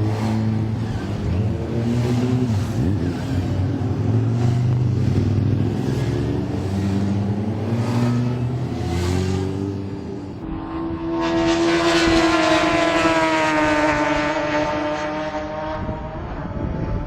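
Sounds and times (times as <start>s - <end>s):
motorcycle passing at speed: 0.0s - 17.0s.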